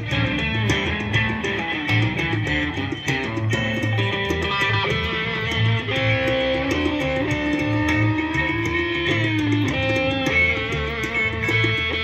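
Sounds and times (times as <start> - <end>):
electric guitar: 0.0 - 12.0
pulsing bass line: 0.0 - 12.0.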